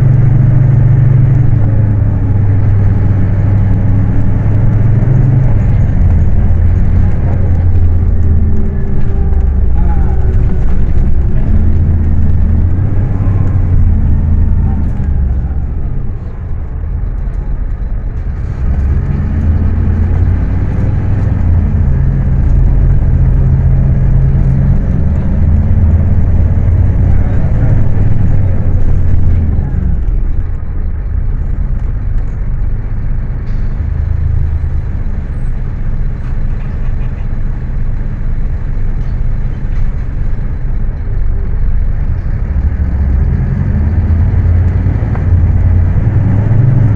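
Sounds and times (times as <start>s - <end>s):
bus diesel engine running: 0.0s - 46.9s.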